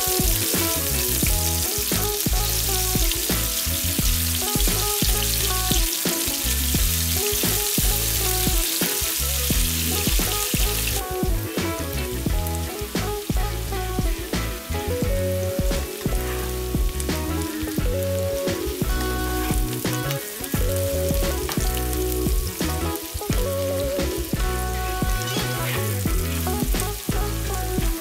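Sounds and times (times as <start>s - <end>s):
onions sizzling in a frying pan: 0.0s - 28.0s.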